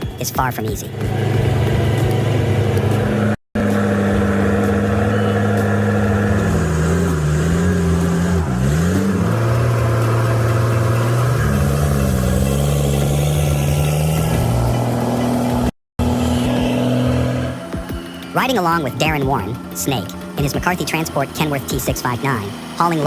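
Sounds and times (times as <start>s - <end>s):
heavy vehicle engine revving: 0.0s - 23.0s.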